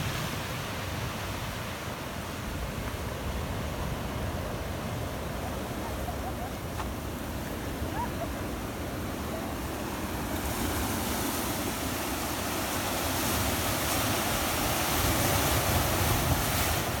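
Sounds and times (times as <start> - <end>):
ocean surf breaking over rocks: 0.0 - 17.0.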